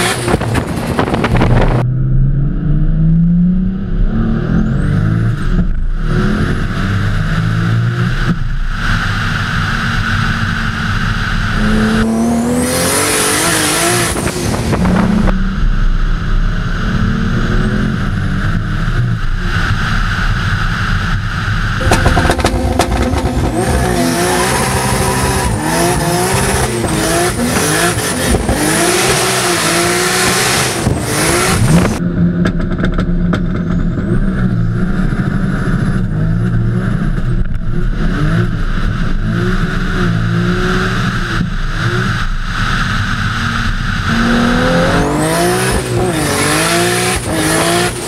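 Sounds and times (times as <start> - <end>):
car engine accelerating through gears: 0.0 - 48.0.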